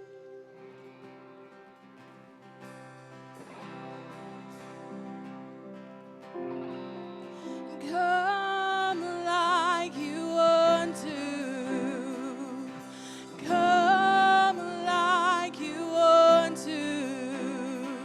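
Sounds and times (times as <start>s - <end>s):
sustained guitar accompaniment: 0.0s - 18.0s.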